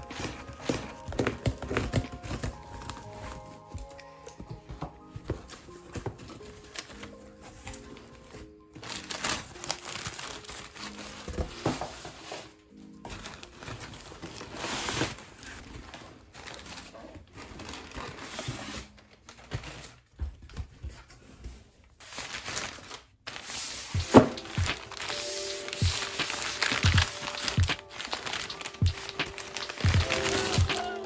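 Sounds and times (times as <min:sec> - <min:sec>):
packing paper crumpling and rustling: 0:00.0 - 0:31.0.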